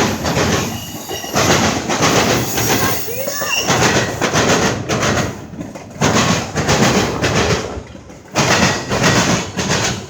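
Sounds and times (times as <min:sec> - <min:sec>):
passing train: 0:00.0 - 0:10.0.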